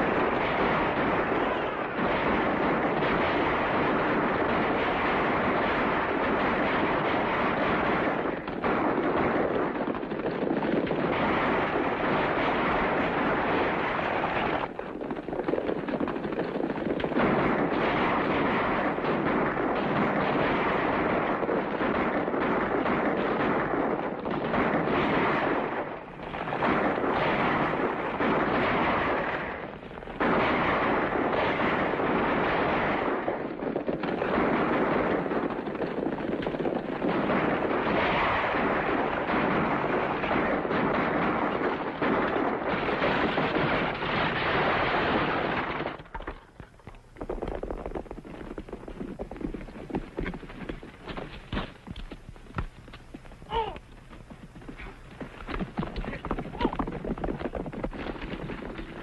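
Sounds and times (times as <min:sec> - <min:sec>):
dense gunfire: 0:00.0 - 0:59.0.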